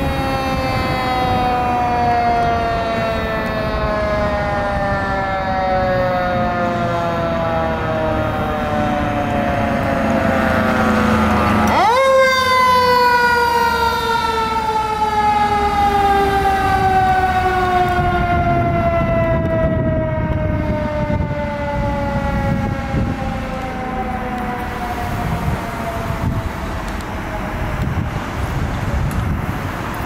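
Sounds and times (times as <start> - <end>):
truck engine and tyres rumbling: 0.0 - 30.0.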